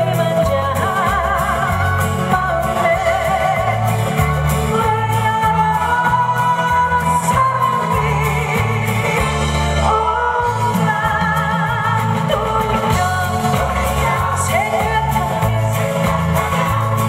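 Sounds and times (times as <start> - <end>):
acoustic guitar strumming: 0.0 - 17.0
amplified bass and beat: 0.0 - 17.0
person singing a ballad: 0.0 - 17.0.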